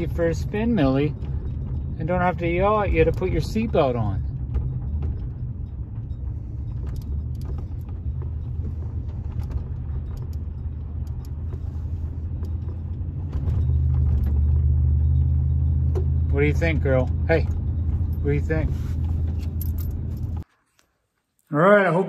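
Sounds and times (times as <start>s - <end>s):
engine and road rumble: 0.0s - 20.6s.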